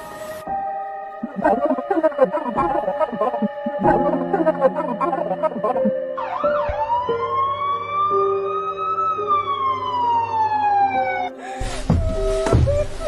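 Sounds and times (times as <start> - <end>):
background music held notes: 0.0 - 13.0
siren wail: 1.2 - 12.8.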